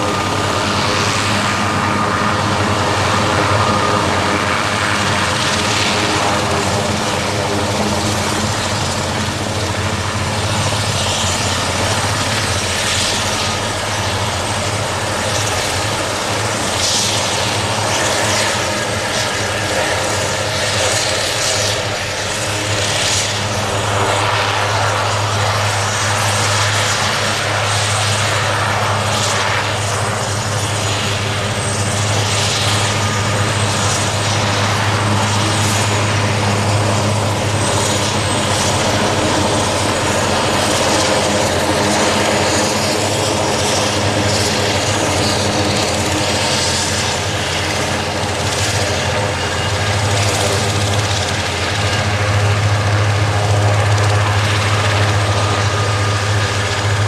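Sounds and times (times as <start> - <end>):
helicopter engines and rotor: 0.0 - 57.0.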